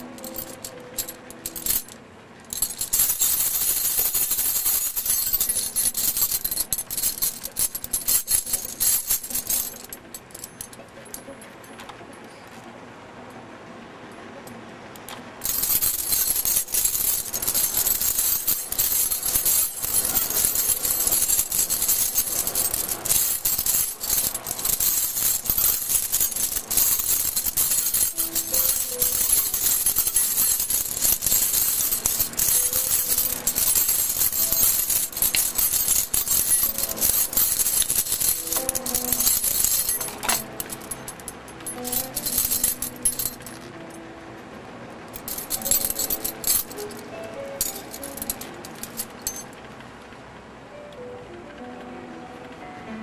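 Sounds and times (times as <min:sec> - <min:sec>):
metal rings clinking and jangling: 0:00.0 - 0:11.9, 0:15.4 - 0:44.0, 0:45.1 - 0:49.6.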